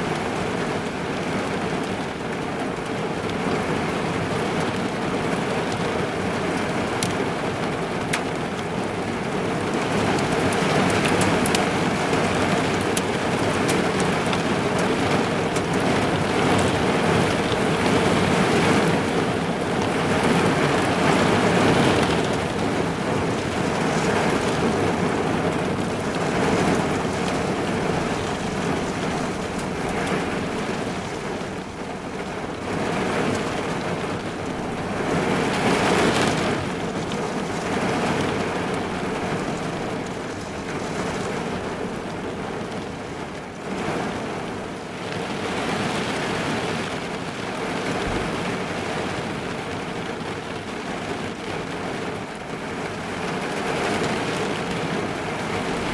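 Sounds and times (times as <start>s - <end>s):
heavy rain on car roof: 0.0s - 55.9s.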